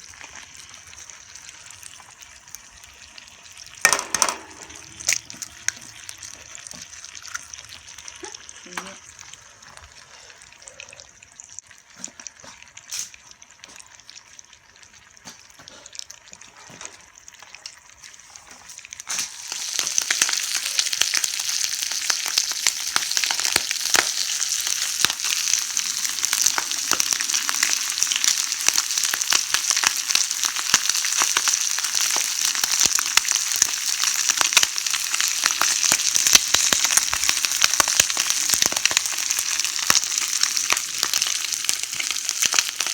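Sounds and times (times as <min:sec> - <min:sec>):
bacon sizzling in a pan: 0:00.0 - 0:42.9.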